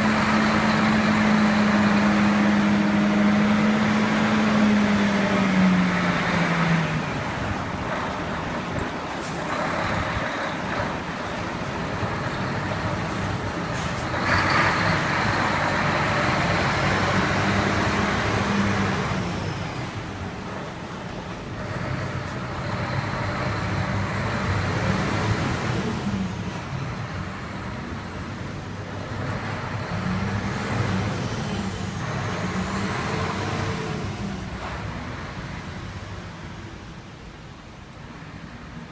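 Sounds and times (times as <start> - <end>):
diesel trucks driving off: 0.0 - 38.9.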